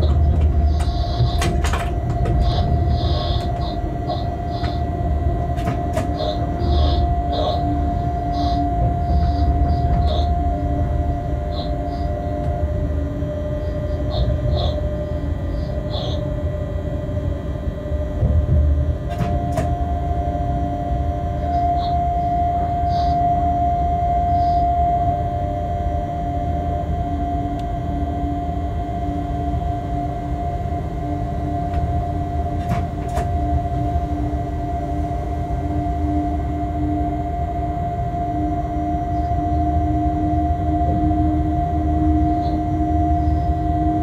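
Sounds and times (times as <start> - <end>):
steady whine: 0.0 - 44.0
train rumbling on track: 0.0 - 44.0.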